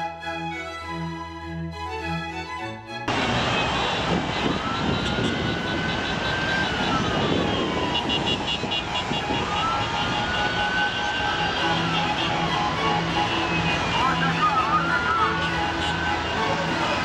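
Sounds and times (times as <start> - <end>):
city highway traffic: 1.9 - 17.0
car horns: 3.1 - 17.0
siren wailing: 3.1 - 17.0.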